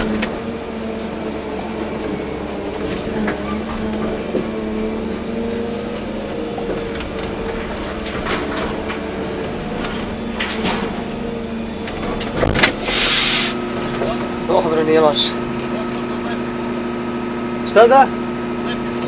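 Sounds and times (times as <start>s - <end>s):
machine knocks and clatters: 0.0s - 15.7s
excavator diesel engine running: 0.0s - 19.0s.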